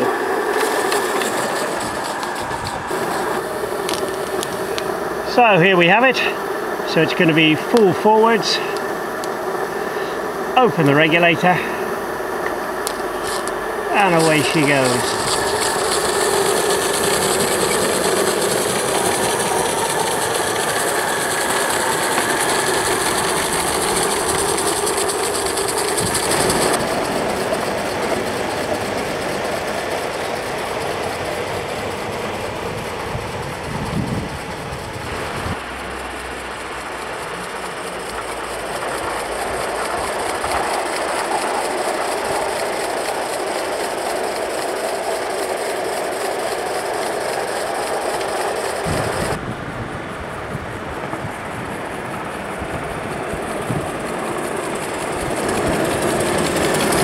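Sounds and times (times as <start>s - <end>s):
model train wheels on track: 0.0s - 57.0s
steam hissing: 0.0s - 57.0s.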